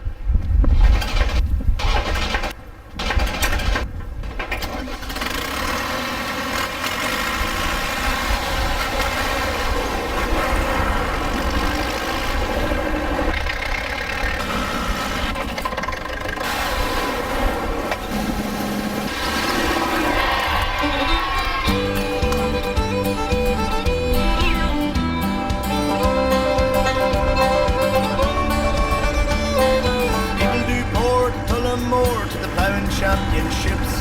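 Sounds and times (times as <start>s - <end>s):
tractor engine running: 0.4s - 34.0s.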